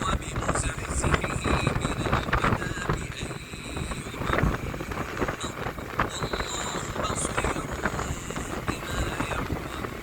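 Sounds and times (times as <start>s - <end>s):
moving vehicle rumble: 0.0s - 10.0s
wind buffeting microphone: 0.0s - 10.0s.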